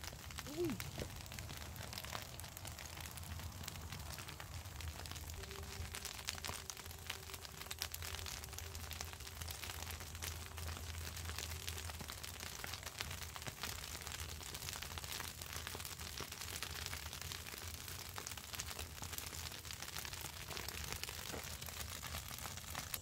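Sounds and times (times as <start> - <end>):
dry grass fire crackling: 0.0 - 23.0.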